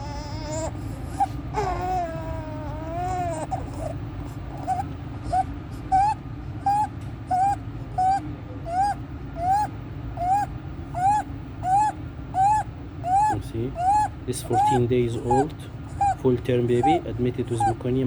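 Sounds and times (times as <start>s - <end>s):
baby crying: 0.0s - 17.8s
newborn stridor breathing: 0.0s - 18.0s.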